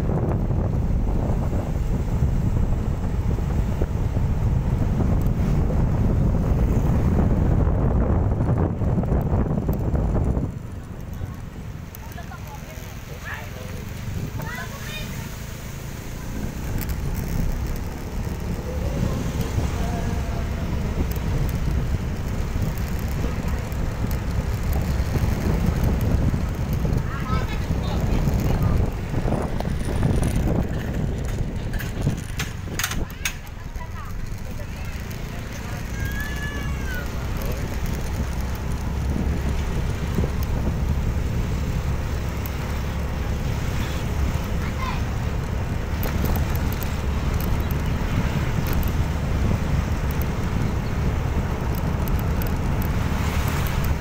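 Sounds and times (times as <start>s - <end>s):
motorcycle running: 0.0s - 54.0s
wind rushing over microphone: 0.0s - 54.0s.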